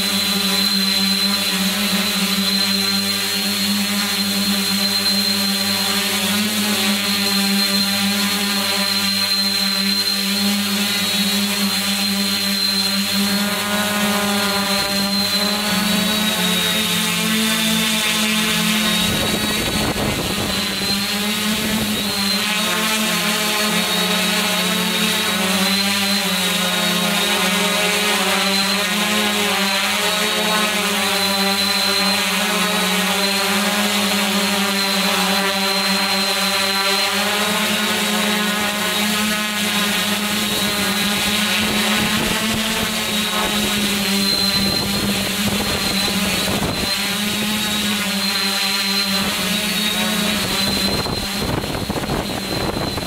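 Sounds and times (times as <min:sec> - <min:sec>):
drone motors buzzing: 0:00.0 - 0:53.0
thin high whine: 0:00.0 - 0:53.0.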